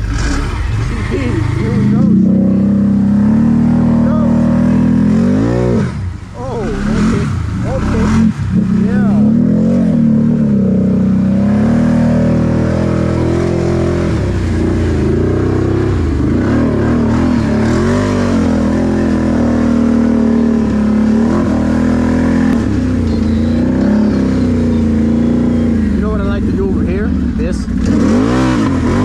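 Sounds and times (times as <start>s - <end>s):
atv engine running hard: 0.0s - 29.0s
vehicle pushing through water: 0.0s - 29.0s.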